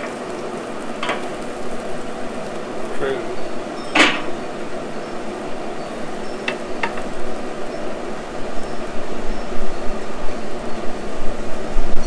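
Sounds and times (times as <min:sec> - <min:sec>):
fire rushing: 0:00.0 - 0:12.0.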